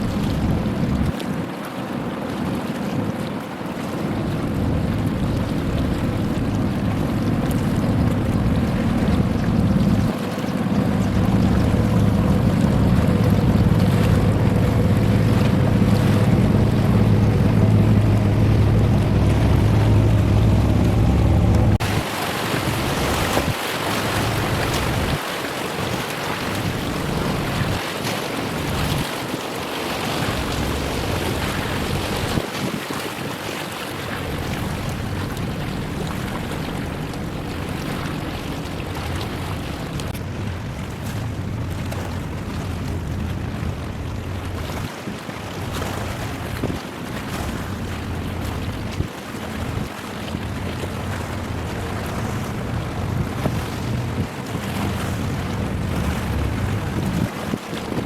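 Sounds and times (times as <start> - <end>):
ship engine rumble: 0.0 - 1.1, 4.1 - 32.8, 33.8 - 58.0
wind buffeting microphone: 0.0 - 1.5, 2.3 - 58.0.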